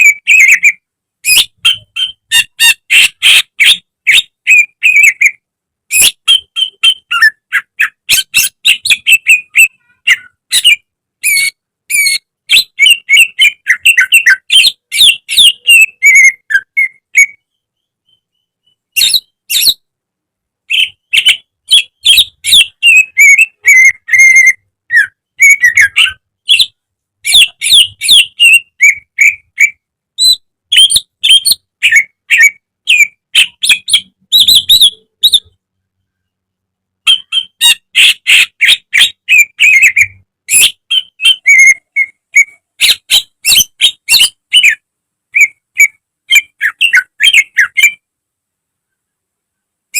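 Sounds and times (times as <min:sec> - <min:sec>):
bird chirping and whistling: 0:00.0 - 0:19.8, 0:20.7 - 0:35.5, 0:37.1 - 0:44.8, 0:45.4 - 0:48.0.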